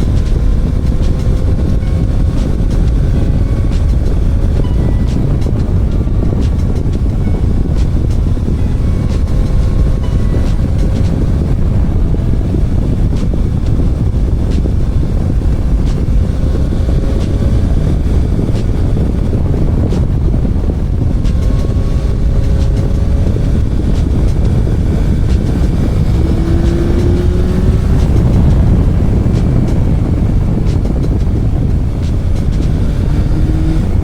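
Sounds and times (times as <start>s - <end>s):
motorcycle engine: 0.0s - 34.0s
wind buffeting microphone: 0.0s - 34.0s.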